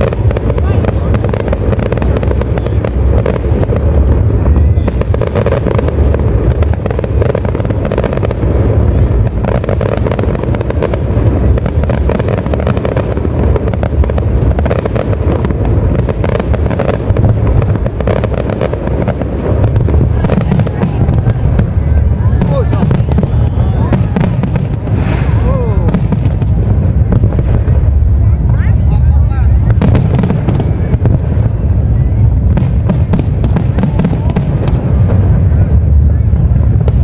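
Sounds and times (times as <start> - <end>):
fireworks booming and crackling: 0.0 - 37.0.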